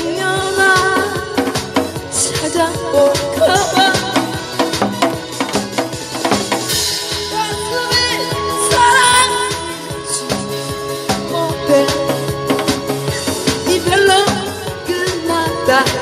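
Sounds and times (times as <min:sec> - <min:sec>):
woman singing into microphone: 0:00.0 - 0:05.2, 0:07.2 - 0:16.0
backing track with drum beat: 0:00.0 - 0:16.0.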